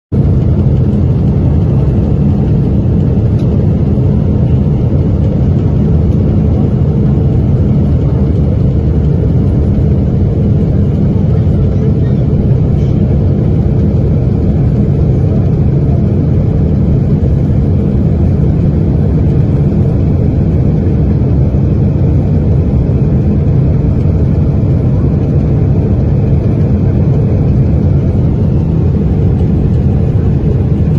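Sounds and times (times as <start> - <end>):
aircraft cabin engine roar: 0.1 - 30.9.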